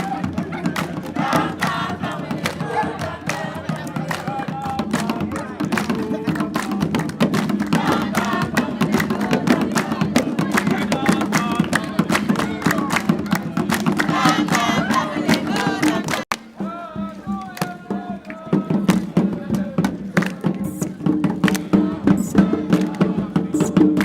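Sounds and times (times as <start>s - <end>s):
drums beaten fast: 0.0s - 24.0s
group singing and shouting: 0.0s - 24.0s.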